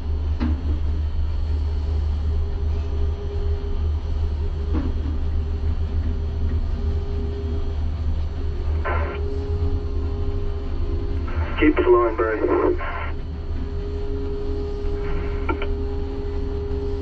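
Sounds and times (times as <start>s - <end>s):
crane drive rumble and whine: 0.0s - 17.0s.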